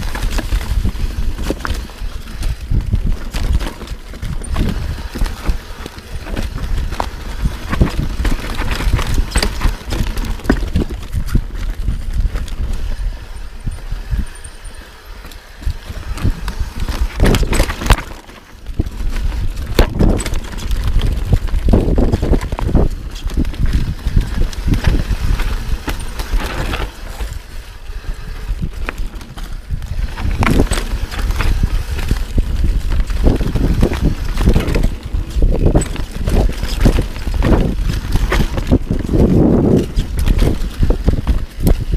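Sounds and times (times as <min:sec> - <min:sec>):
bike clattering over rocks: 0:00.0 - 0:14.9, 0:15.6 - 0:41.9
low rumble of riding: 0:00.0 - 0:41.9.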